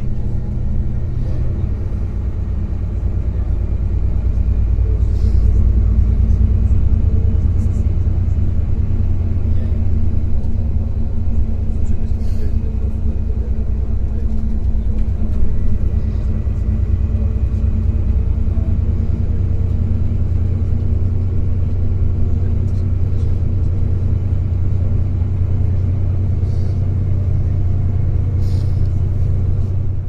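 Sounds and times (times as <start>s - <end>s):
bus engine drone: 0.0s - 30.0s
road rumble: 0.0s - 30.0s.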